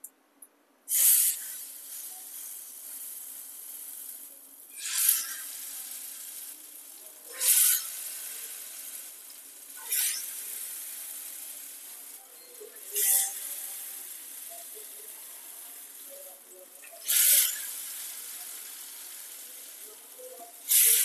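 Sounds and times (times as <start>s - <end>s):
steady frying hiss: 0.9s - 21.0s.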